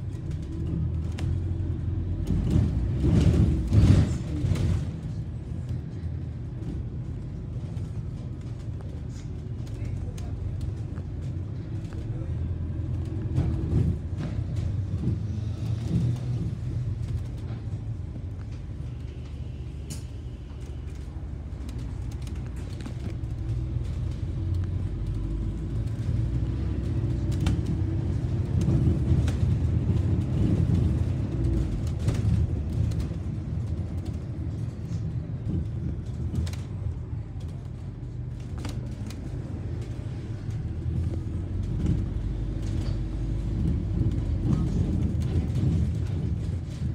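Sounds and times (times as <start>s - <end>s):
bus engine rumble: 0.0s - 46.9s.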